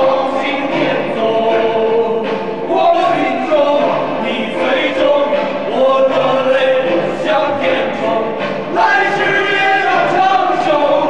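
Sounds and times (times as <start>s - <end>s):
choir singing: 0.0s - 11.0s.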